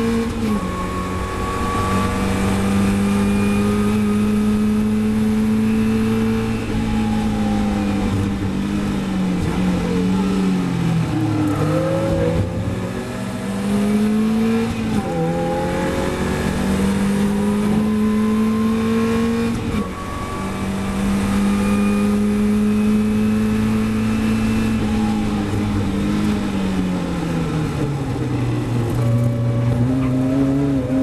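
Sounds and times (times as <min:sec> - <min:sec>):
race car engine accelerating: 0:00.0 - 0:31.0
wind and road noise: 0:00.0 - 0:31.0.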